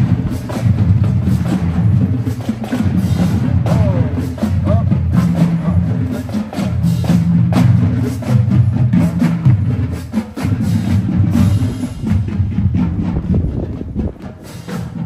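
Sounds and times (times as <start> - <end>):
drum hits: 0.0 - 15.0
marching band playing: 0.0 - 15.0.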